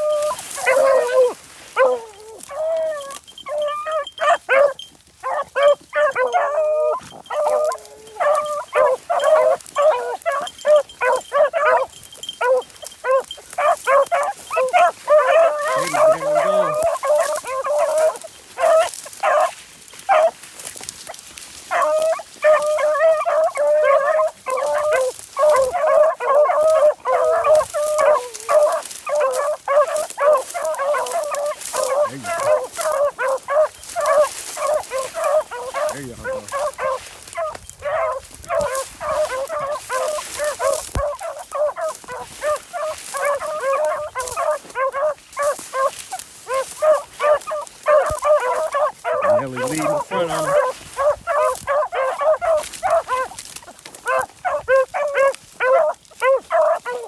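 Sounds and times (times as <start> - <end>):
hounds baying: 0.0 - 57.0.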